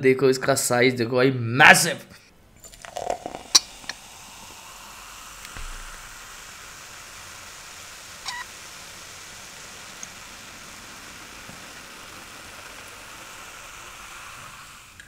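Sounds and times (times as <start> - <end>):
cola fizzing in a glass: 2.6 - 15.0.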